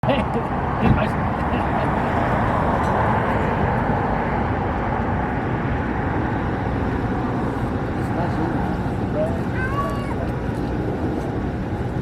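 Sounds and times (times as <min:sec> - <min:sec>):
jet engines during takeoff: 0:00.0 - 0:12.0.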